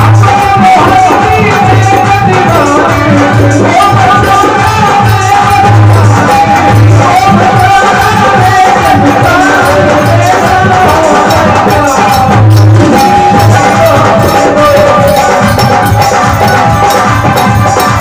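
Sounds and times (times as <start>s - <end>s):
man singing: 0.0s - 18.0s.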